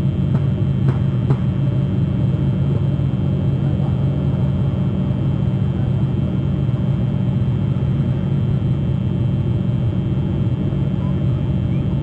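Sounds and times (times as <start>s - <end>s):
low drone with rumble: 0.0s - 12.0s.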